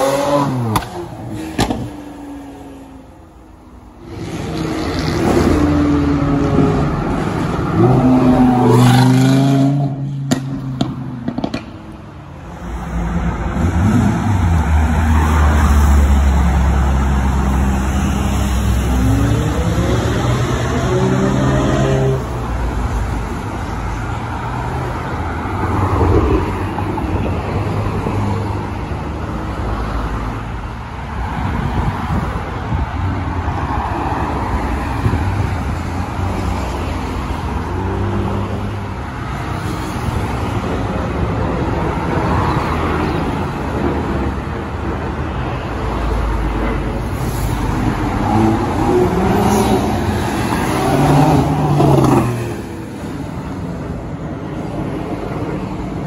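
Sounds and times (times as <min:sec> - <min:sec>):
traffic passing: 0:00.0 - 0:56.0.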